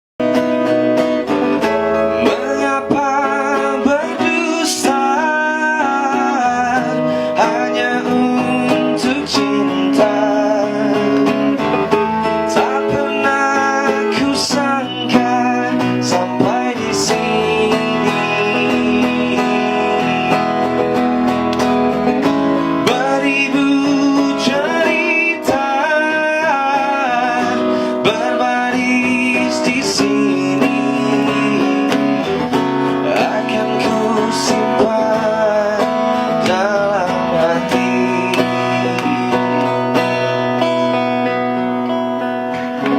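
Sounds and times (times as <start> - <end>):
man singing: 0.2 - 21.5, 22.2 - 42.9
strummed acoustic guitar: 0.2 - 42.9.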